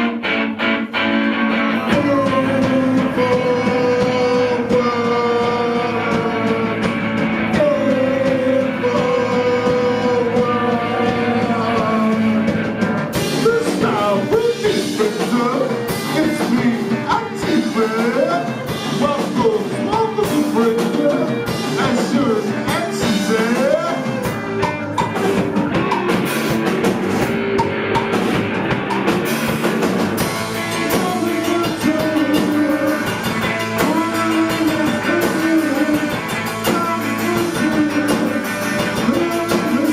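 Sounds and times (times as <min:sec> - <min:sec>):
drums: 0:00.0 - 0:39.9
electric guitar: 0:00.0 - 0:39.9
person singing: 0:01.6 - 0:26.7, 0:30.2 - 0:39.9.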